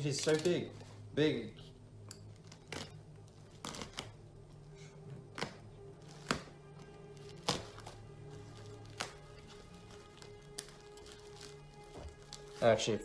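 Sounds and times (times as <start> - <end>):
faint background music: 0.0 - 13.0
bubble wrap crackling: 2.3 - 13.0.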